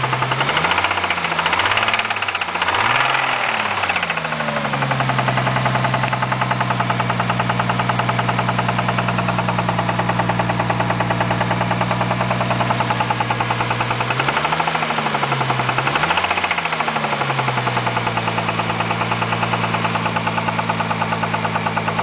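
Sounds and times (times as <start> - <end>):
car engine running: 0.0 - 22.0
rapid engine knock: 0.0 - 22.0.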